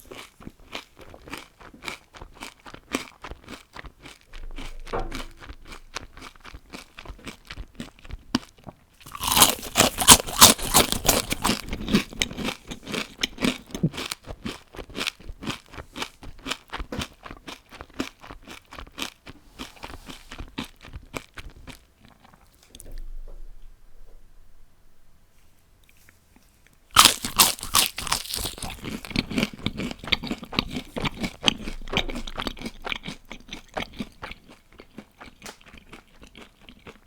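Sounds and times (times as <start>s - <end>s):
crunchy chewing: 0.0s - 22.6s, 25.9s - 37.0s.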